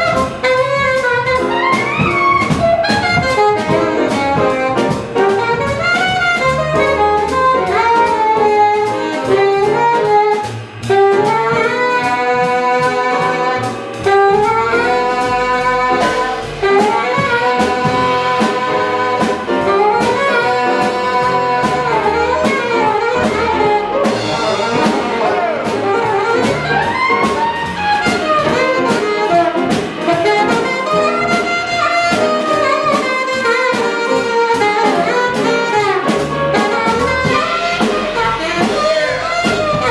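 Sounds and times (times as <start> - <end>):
alto saxophone solo: 0.0 - 39.9
drum kit: 0.0 - 39.9
piano: 0.0 - 39.9
upright bass: 0.0 - 39.9.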